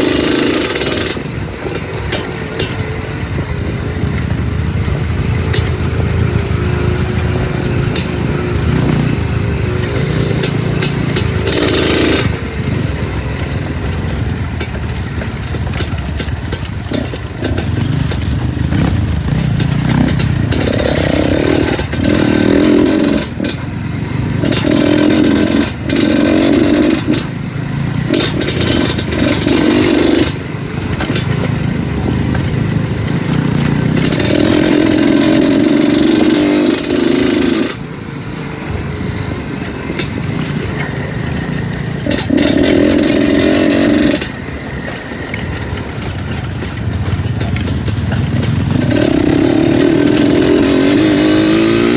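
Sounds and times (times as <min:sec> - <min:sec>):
knocks and clatter: 0:00.0 - 0:51.9
motorcycle engine revving: 0:00.0 - 0:51.9.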